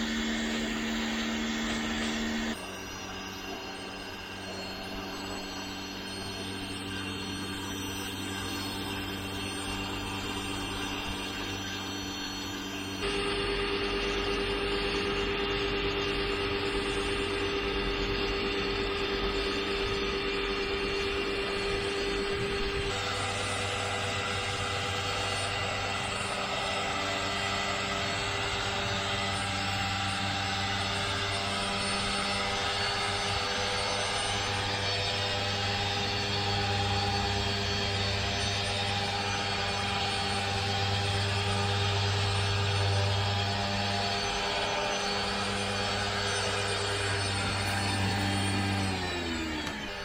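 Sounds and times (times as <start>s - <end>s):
pressure washer engine drone: 0.0s - 50.0s.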